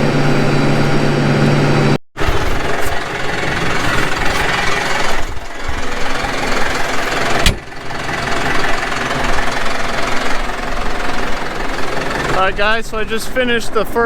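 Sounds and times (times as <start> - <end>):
tractor engine rattling under load: 2.2 - 14.0.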